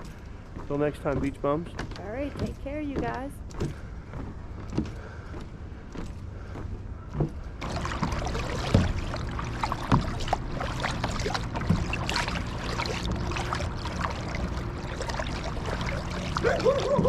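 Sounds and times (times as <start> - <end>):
creek water splashing and gurgling: 0.0 - 4.2, 6.4 - 17.0.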